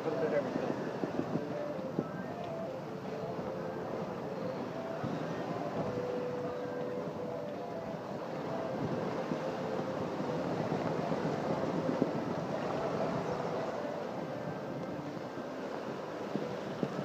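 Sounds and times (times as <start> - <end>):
churning water: 0.0 - 17.0
wind buffeting microphone: 0.0 - 17.0.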